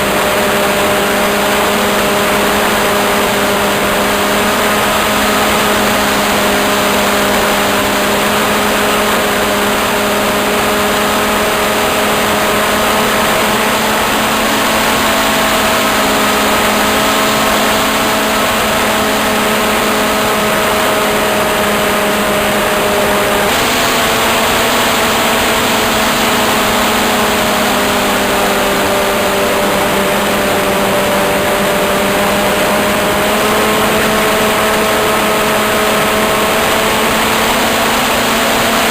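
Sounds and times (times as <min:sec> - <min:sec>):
model airplane motor running: 0:00.0 - 0:38.9
steady rushing hiss: 0:00.0 - 0:38.9.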